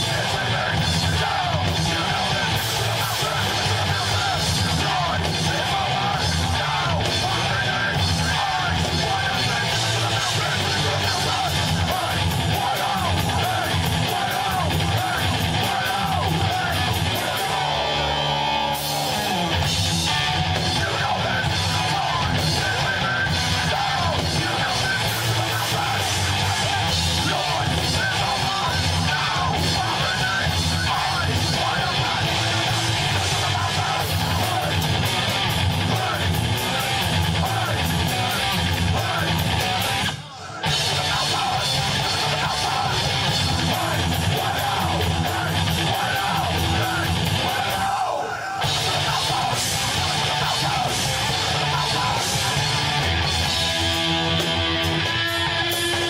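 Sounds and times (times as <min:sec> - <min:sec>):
heavy rock band playing: 0:00.0 - 0:56.0
shouted vocals: 0:00.0 - 0:56.0.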